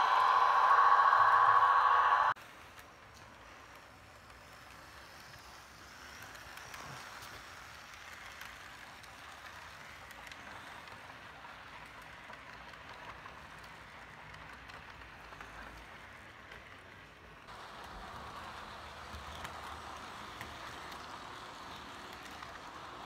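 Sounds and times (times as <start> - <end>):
model train wheels on track: 0.0 - 23.0.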